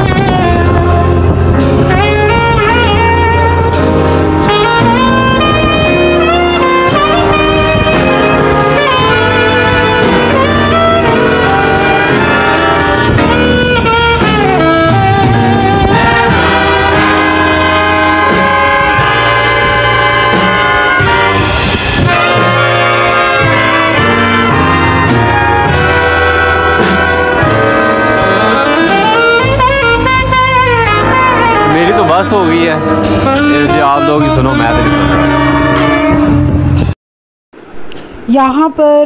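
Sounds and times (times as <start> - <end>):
saxophone: 0.0 - 36.9
bass line: 0.0 - 37.0
big band playing jazz: 0.0 - 37.0.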